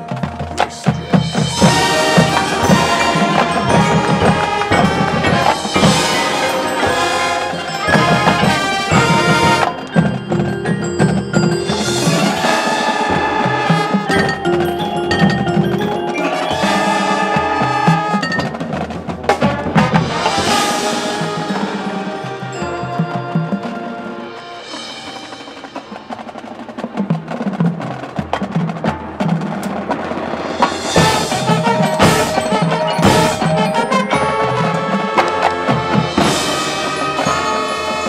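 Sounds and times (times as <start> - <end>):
mallet percussion: 0.0 - 26.4, 30.5 - 38.0
marching band playing: 0.0 - 38.0.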